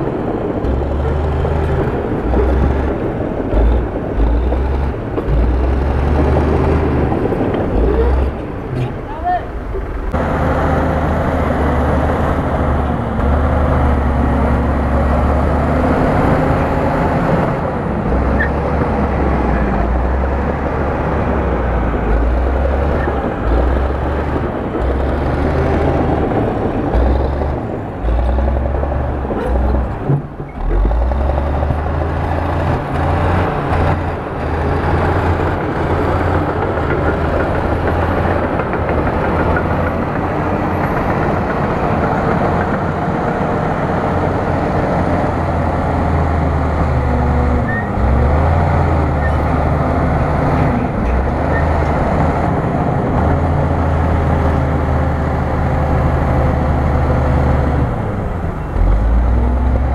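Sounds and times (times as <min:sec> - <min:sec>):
bulldozer diesel engine rumbling: 0:00.0 - 0:59.9.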